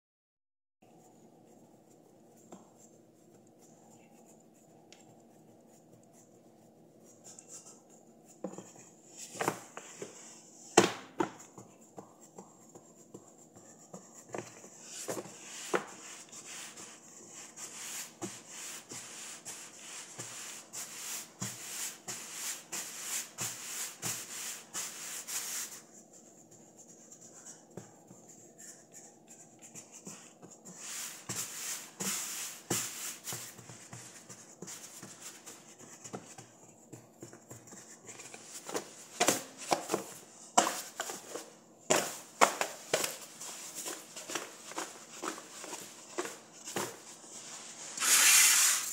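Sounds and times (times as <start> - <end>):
hands patting dough: 0.9 - 47.6.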